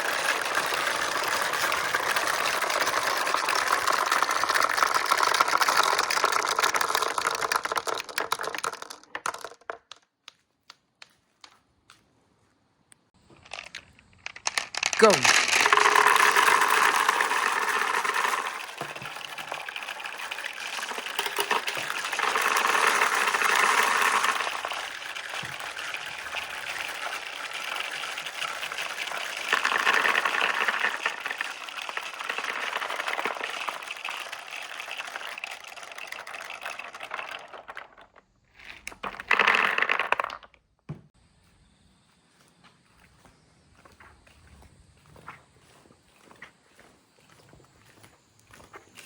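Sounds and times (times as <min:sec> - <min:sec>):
marbles rolling and clattering: 0:00.0 - 0:10.4, 0:13.2 - 0:40.6, 0:43.8 - 0:49.0.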